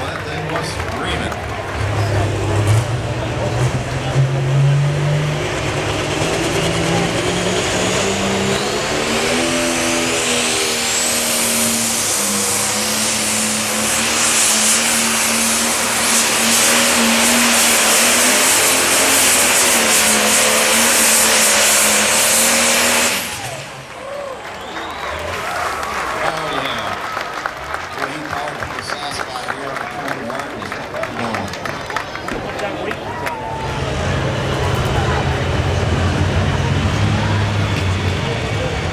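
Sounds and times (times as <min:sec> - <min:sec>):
high turbo whine: 0:00.0 - 0:29.8, 0:32.9 - 0:38.9
tractor engine at full power: 0:00.0 - 0:38.9.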